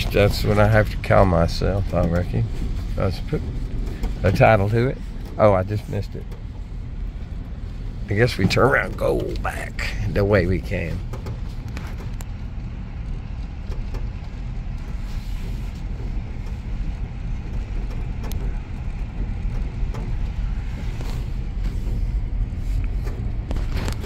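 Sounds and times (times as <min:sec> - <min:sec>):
light clicks or rattles: 0:00.0 - 0:24.0
vehicle engine and tyres rumbling: 0:00.0 - 0:24.0.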